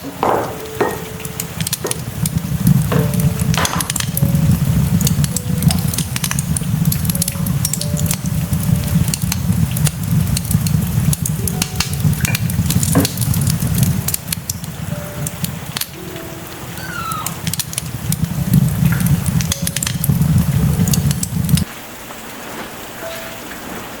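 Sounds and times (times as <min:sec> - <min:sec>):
food sizzling in a pan: 0:00.2 - 0:21.7.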